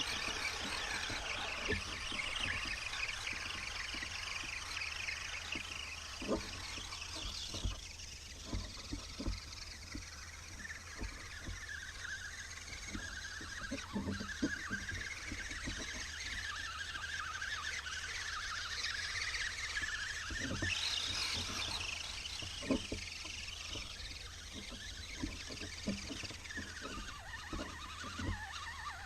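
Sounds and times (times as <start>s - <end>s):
electric motor whining: 0.0s - 29.0s.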